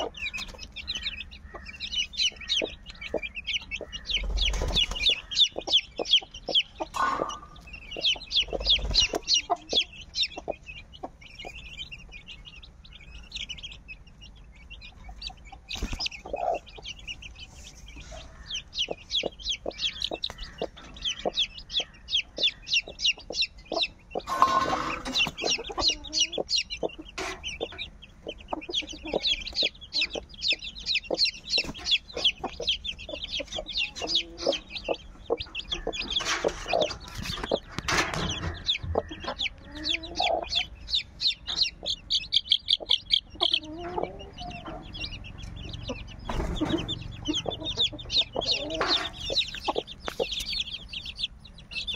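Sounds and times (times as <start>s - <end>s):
young chickens peeping: 0.0s - 51.9s.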